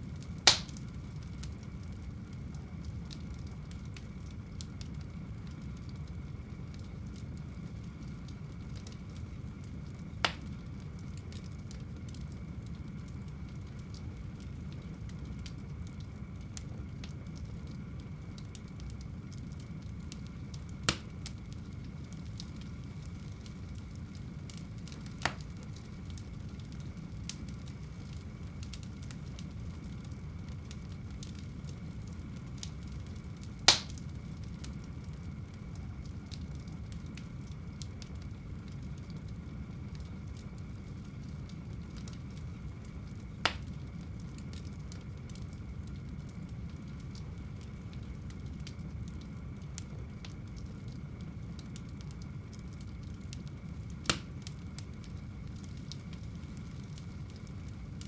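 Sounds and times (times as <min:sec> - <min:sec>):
fire popping: 0:00.0 - 0:58.0
fireplace fire rumbling: 0:00.0 - 0:58.0.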